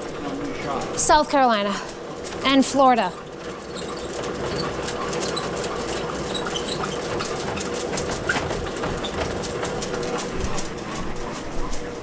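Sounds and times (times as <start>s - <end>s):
drain cleaning motor humming: 0.0s - 12.0s
spinning cable rattling and clicking: 0.2s - 11.1s.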